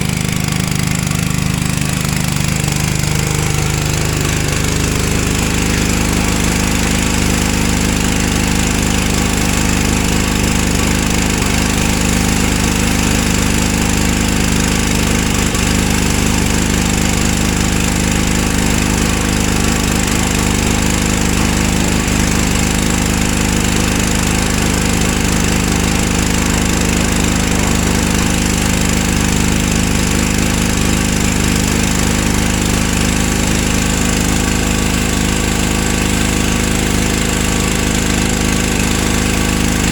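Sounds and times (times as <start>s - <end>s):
small gas engine running: 0.0s - 39.9s
water spray hissing: 0.0s - 39.9s.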